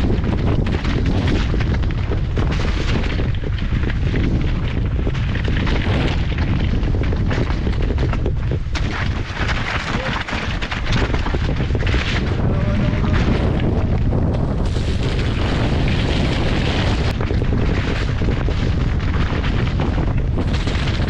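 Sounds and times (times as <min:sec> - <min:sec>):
bike rattling over rocky ground: 0:00.0 - 0:21.0
wind rumble on microphone: 0:00.0 - 0:21.0.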